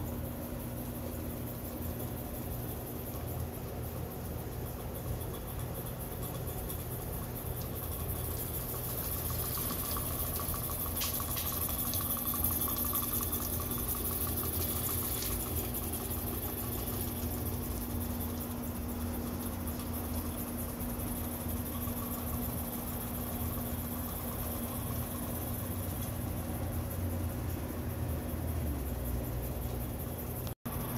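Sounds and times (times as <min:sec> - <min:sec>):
miniature steam locomotive running: 0:01.0 - 0:27.2.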